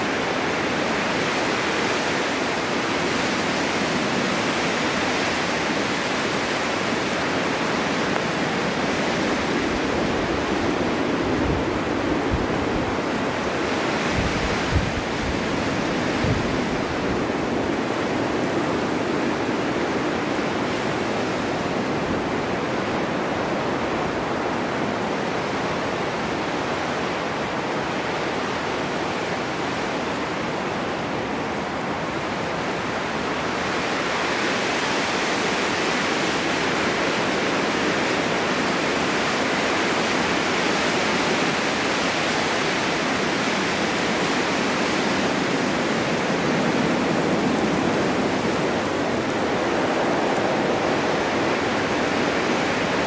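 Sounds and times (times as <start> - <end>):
snowstorm wind blowing: 0.0 - 53.0.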